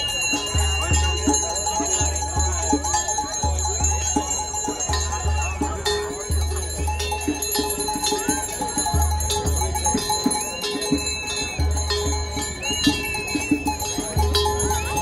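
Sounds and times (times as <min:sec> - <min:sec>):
large cowbells clanging: 0:00.0 - 0:15.0
marching crowd noise: 0:00.0 - 0:15.0.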